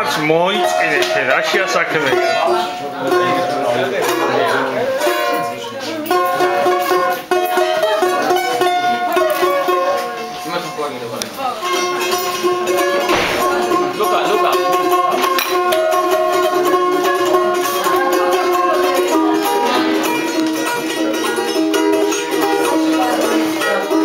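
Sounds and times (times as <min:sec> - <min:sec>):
plucked lute strummed: 0:00.0 - 0:10.9, 0:11.6 - 0:24.0.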